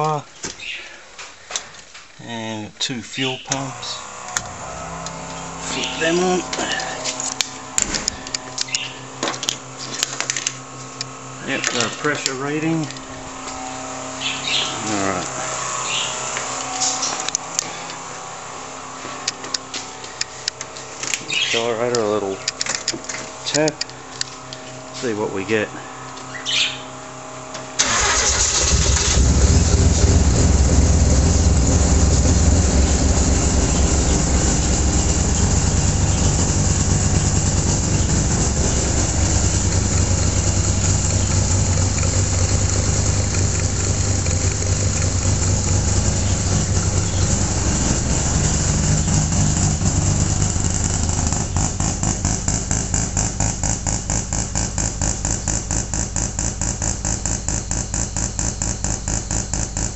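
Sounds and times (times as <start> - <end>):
rotary engine starting and running: 3.3 - 59.9.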